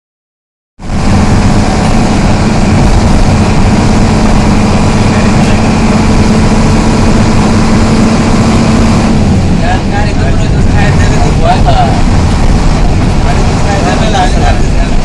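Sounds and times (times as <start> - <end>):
bus diesel engine running: 0.8 - 15.0.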